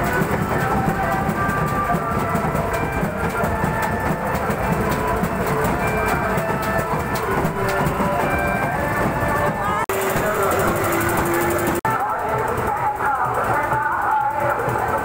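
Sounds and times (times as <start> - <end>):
fast drumming on large drums: 0.0 - 15.0.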